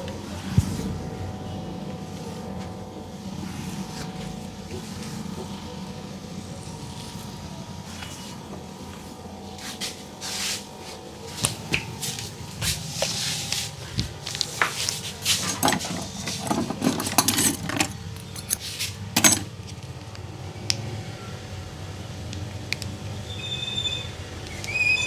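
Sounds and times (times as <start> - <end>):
low street hum: 0.0 - 25.0.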